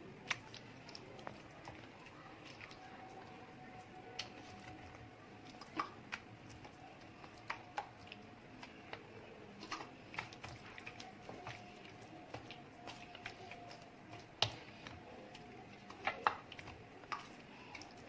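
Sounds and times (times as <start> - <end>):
chicken squelching in marinade: 0.0 - 18.0.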